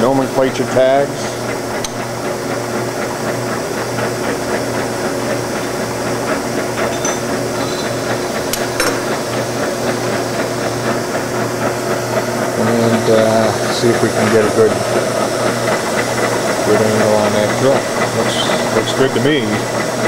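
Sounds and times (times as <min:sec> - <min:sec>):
machinery hissing and humming: 0:00.0 - 0:20.0.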